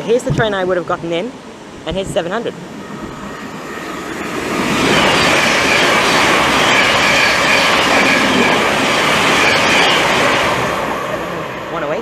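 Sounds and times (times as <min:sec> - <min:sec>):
faint high whine: 0:00.0 - 0:10.1
train wheels rushing on rail: 0:00.0 - 0:12.0.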